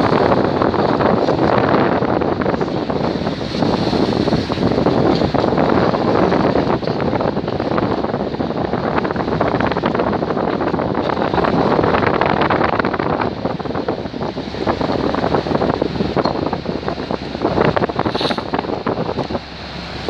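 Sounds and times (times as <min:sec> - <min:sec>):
steady low rumble: 0:00.0 - 0:20.0
wind buffeting microphone: 0:00.0 - 0:20.0.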